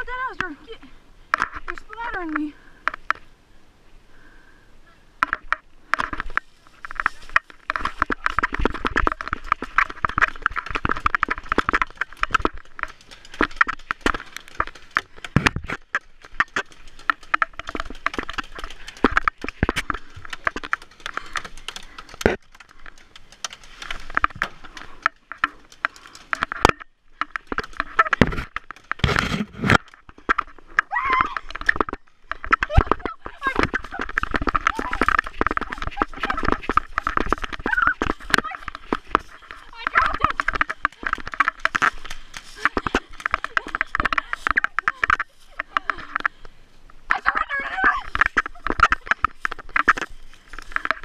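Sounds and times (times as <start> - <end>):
clicks and knocks of handled gear: 0.0 - 3.3, 5.2 - 51.0.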